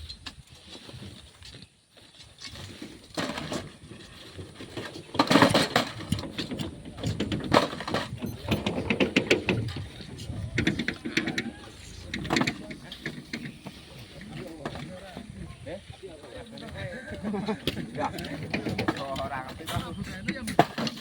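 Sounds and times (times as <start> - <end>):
digging and loading sand and stones: 0.0 - 21.0.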